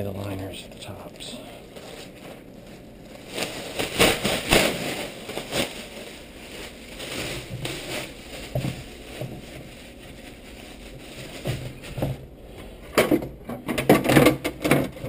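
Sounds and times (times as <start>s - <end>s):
plastic bag rustling: 0.0s - 13.1s.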